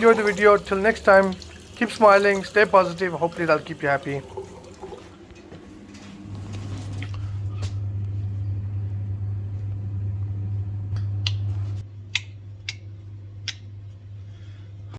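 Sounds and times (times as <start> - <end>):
gas boiler humming: 0.0 - 14.9.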